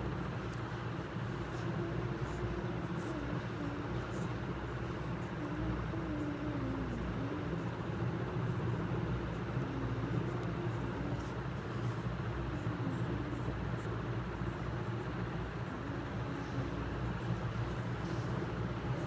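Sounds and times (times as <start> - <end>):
low background hum and rumble: 0.0 - 19.0.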